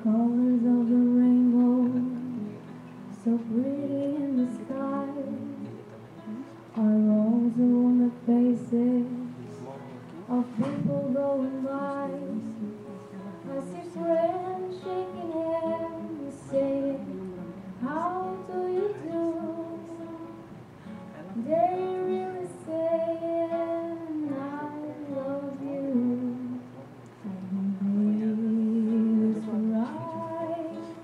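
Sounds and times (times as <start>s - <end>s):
woman singing into a microphone: 0.0s - 5.8s, 6.7s - 9.6s, 10.2s - 20.6s, 21.4s - 31.0s
acoustic guitar: 0.0s - 31.0s.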